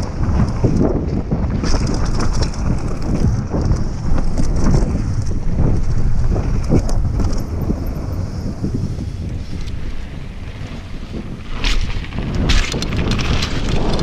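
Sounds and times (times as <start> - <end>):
bike tyres rolling over gravel: 0.0 - 14.0
clicks and rattles from bike: 0.0 - 14.0
wind buffeting microphone: 0.0 - 14.0.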